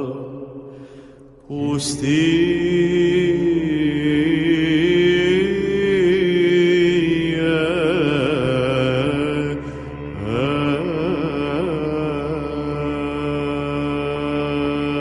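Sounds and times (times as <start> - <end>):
man singing a chant: 0.0 - 0.6, 1.4 - 15.0.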